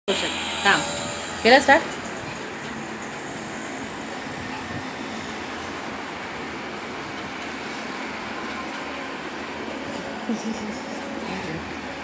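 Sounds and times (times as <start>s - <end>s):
steady background noise: 0.1s - 12.0s.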